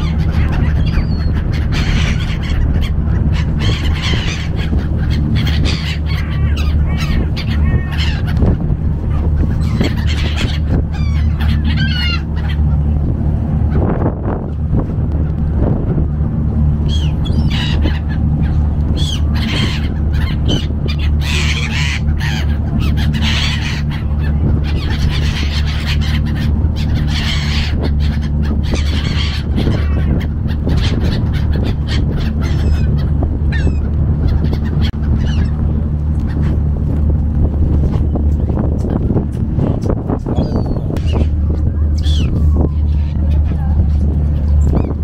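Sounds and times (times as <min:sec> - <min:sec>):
ferry engine drone: 0:00.0 - 0:45.0
gulls calling: 0:00.0 - 0:45.0.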